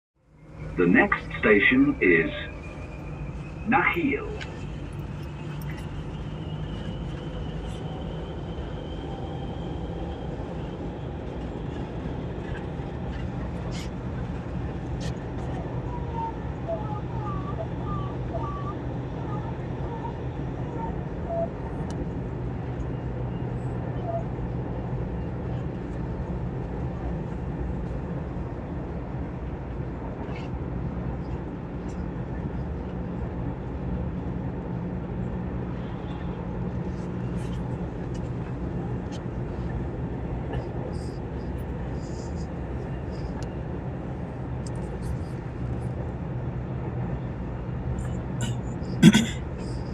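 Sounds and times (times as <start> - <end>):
train rumble inside carriage: 0.2 - 49.9.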